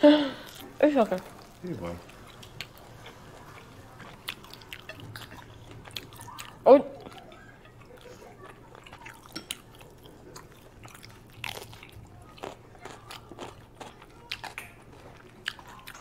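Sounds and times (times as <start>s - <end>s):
person chewing crunchy food: 0.4s - 16.0s.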